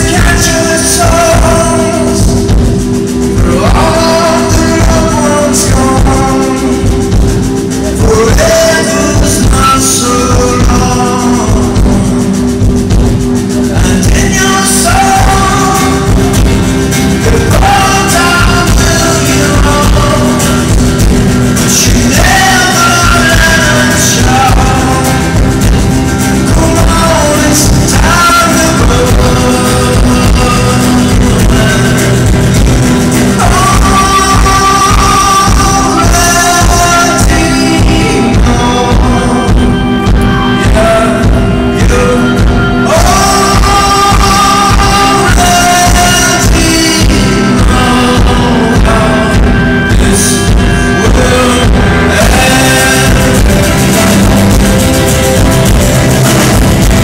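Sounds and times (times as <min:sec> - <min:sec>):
live band playing: 0:00.0 - 0:57.0
man singing: 0:00.0 - 0:57.0.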